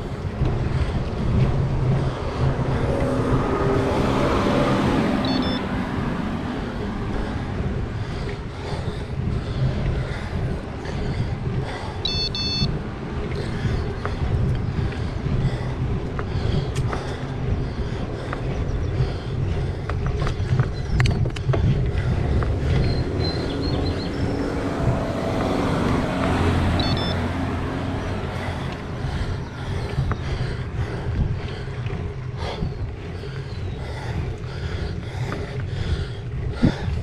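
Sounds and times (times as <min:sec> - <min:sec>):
bike tyre noise: 0:00.0 - 0:37.0
car passing: 0:00.0 - 0:37.0
wind on microphone: 0:00.0 - 0:37.0.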